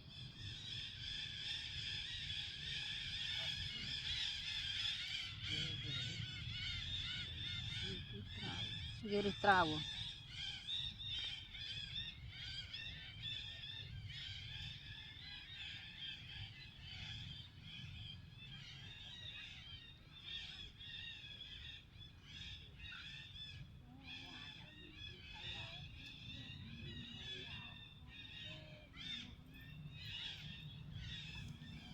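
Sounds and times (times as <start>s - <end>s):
birds chirping chorus: 0.0s - 31.9s.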